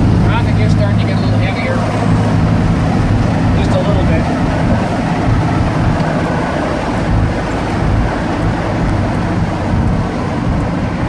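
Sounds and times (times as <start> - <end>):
road and wind noise: 0.0 - 11.0
truck engine drone: 0.0 - 11.0.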